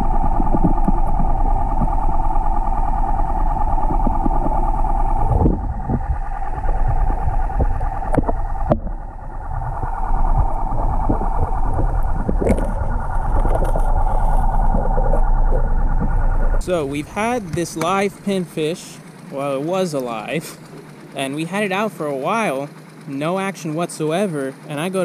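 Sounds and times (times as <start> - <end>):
low muffled rumble: 0.0 - 20.4
motor hum underwater: 0.0 - 25.0.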